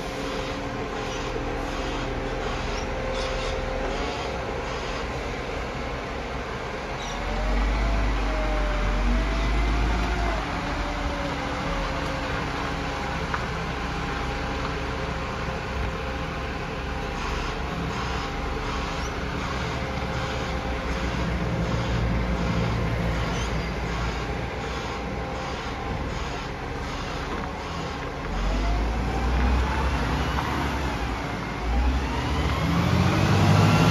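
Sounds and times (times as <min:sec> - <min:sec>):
garbage truck diesel engine: 0:00.0 - 0:33.9.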